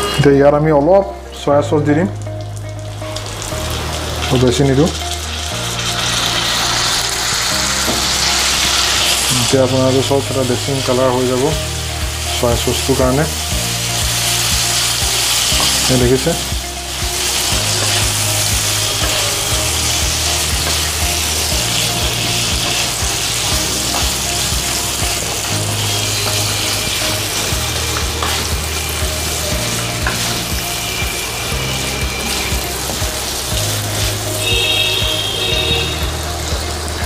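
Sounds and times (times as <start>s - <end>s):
pork sizzling in oil: 1.3s - 37.0s.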